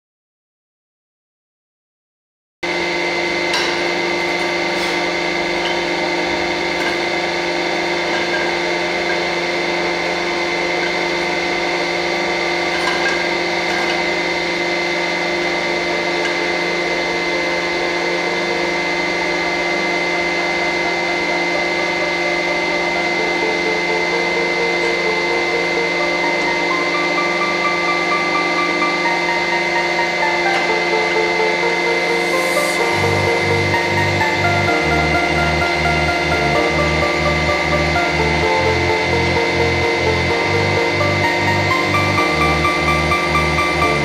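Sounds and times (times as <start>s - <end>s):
pump motor hum with whine: 2.6s - 44.0s.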